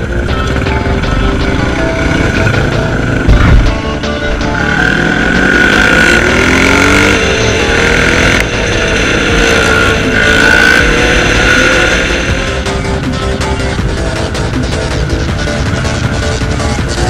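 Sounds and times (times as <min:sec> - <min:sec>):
atv engines revving: 0:00.0 - 0:17.0.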